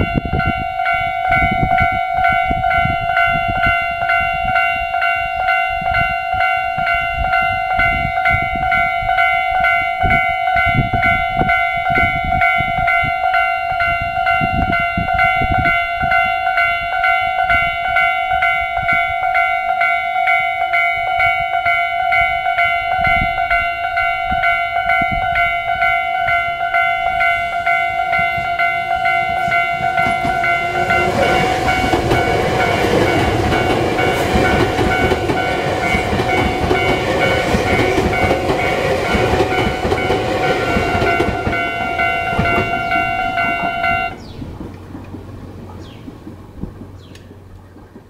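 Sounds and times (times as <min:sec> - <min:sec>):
level crossing warning alarm: 0:00.0 - 0:44.2.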